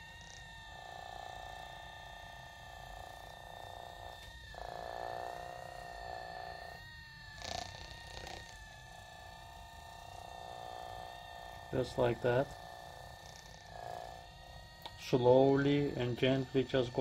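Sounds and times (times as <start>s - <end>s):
massage gun motor buzzing: 0.0s - 17.0s.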